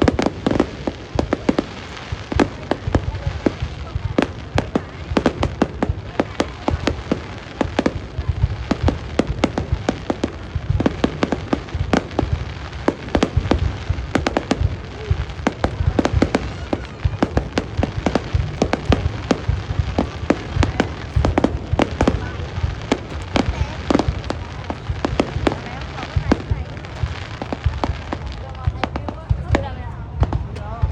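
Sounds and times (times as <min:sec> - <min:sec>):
fireworks bangs: 0:00.0 - 0:30.9.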